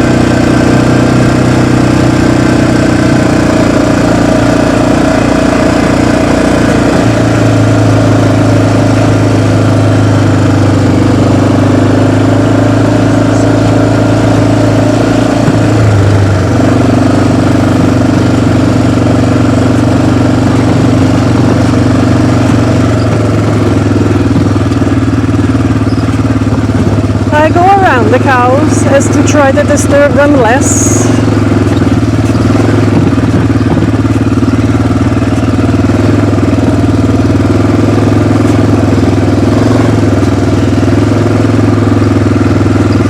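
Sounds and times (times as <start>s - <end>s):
off-road vehicle engine running: 0.0s - 43.0s.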